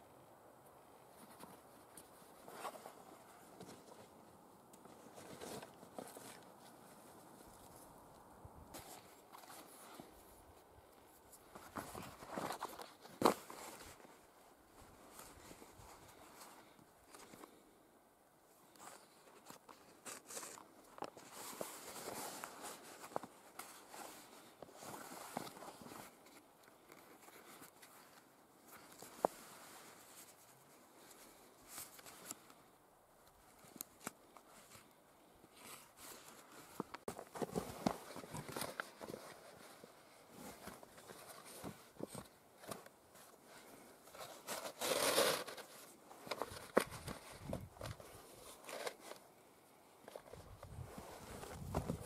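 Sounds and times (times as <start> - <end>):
leather rustling and scraping: 1.1 - 4.2, 4.8 - 7.9, 8.7 - 10.6, 11.2 - 17.6, 18.7 - 32.5, 35.5 - 49.4, 50.0 - 52.0.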